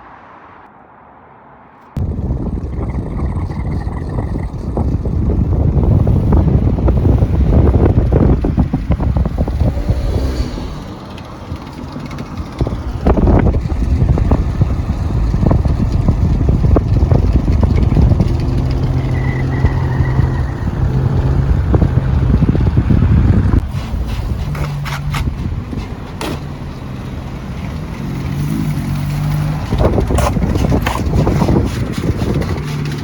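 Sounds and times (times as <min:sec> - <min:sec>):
car engine and road noise rumble: 0:00.0 - 0:33.0.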